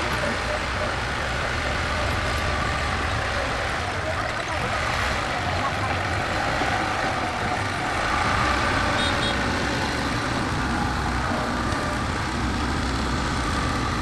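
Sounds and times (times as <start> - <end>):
construction machine engine running: 0.0 - 14.0.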